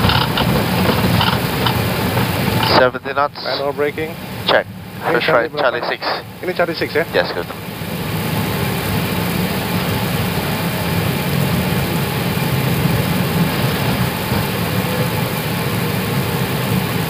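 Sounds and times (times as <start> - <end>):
airliner cockpit rumble and hiss: 0.0 - 17.0.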